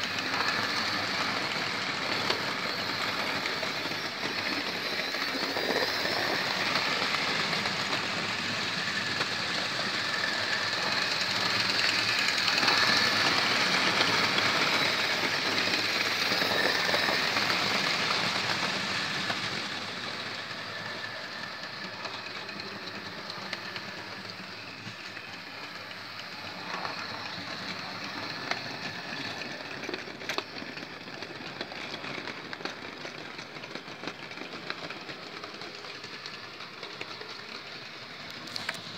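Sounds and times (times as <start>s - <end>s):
model train wheels rattling on rails: 0.0s - 38.9s
small motor whine: 0.0s - 38.9s.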